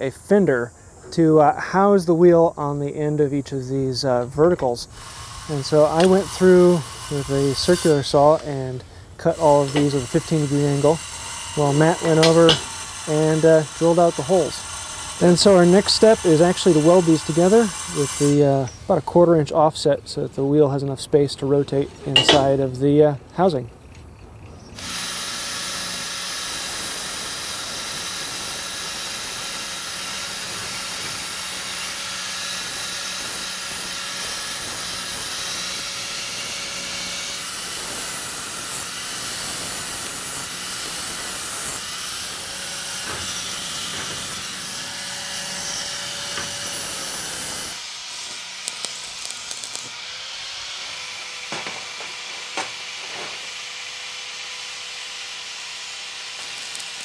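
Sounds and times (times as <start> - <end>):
welding arc crackling and hissing: 0.0 - 23.6, 24.8 - 57.0.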